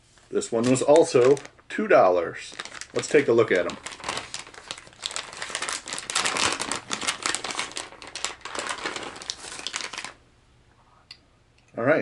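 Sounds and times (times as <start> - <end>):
plastic package crinkling: 0.3 - 10.2.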